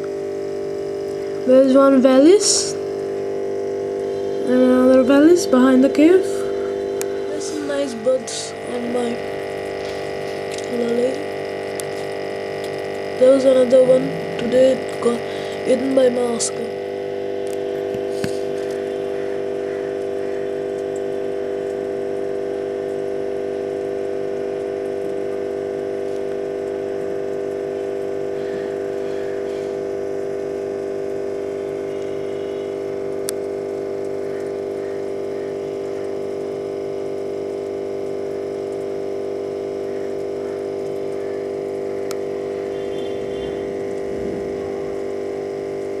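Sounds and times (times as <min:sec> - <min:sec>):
aquarium pump humming: 0:00.0 - 0:46.0.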